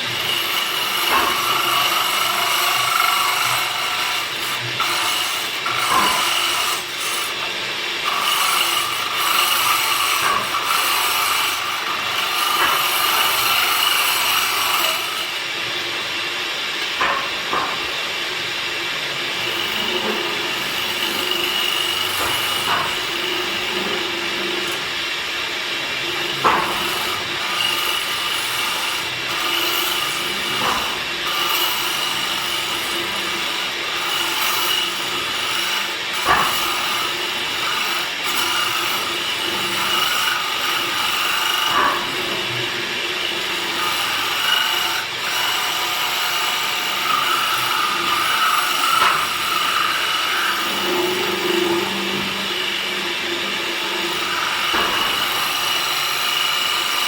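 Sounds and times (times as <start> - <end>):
tool scraping wood: 0.0 - 15.5, 16.9 - 18.0, 19.2 - 25.2, 25.8 - 57.0
woodworking machine whine: 0.0 - 57.0.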